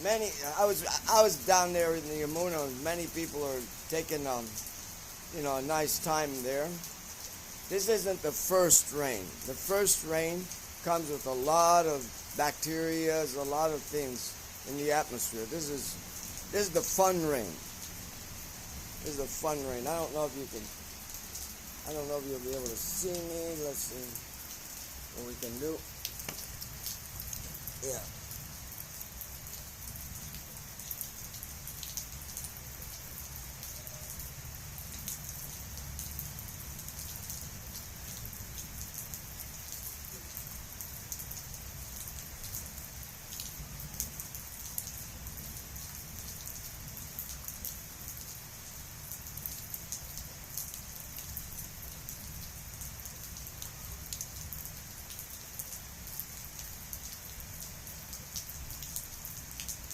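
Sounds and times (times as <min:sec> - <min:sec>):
raindrops pattering on surfaces: 0:00.0 - 0:59.9
steady rain falling: 0:00.0 - 0:59.9.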